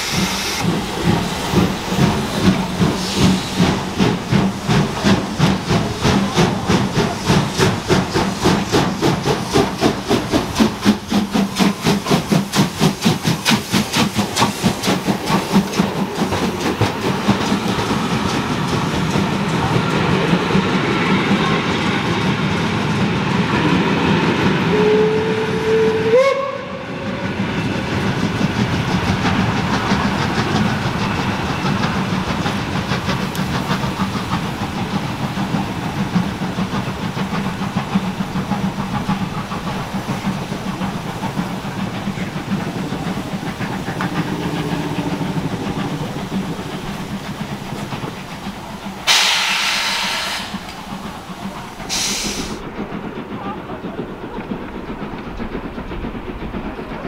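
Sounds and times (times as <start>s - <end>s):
steam hissing: 0.0s - 57.0s
steam train rumbling: 0.0s - 57.0s.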